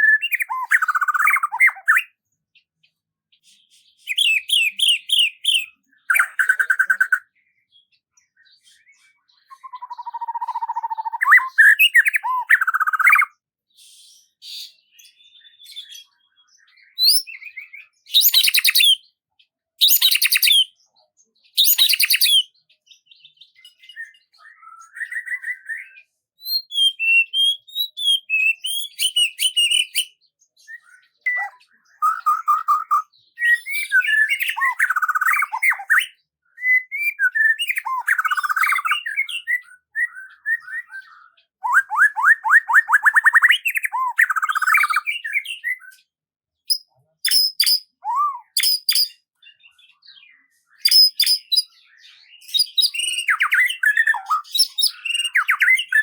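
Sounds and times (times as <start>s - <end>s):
birdsong trills and chirps: 0.0s - 56.0s.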